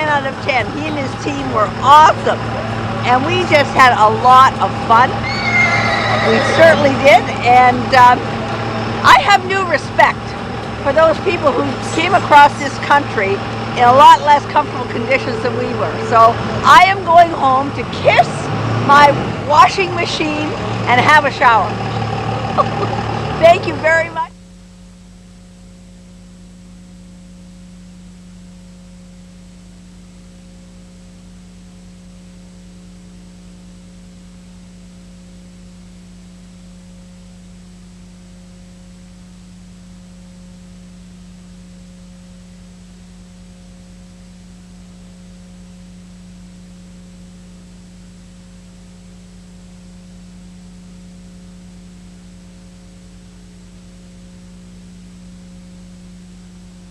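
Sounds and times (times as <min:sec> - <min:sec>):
steady electrical hum and hiss: 0:00.0 - 0:56.9.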